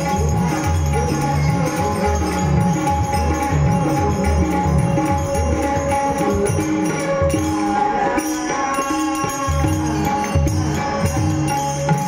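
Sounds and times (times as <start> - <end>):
jingling percussion: 0.0 - 12.0
tabla drum strokes: 0.0 - 12.0.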